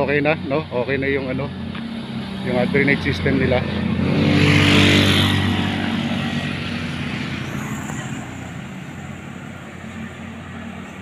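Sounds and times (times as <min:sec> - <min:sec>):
low traffic hum: 0:00.0 - 0:11.0
vehicle engine passing by: 0:00.0 - 0:11.0.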